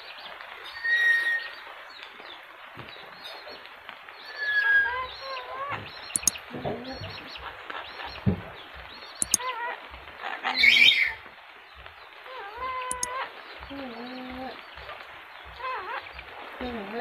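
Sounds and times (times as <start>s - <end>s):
small birds chirping faintly: 1.4s - 17.0s.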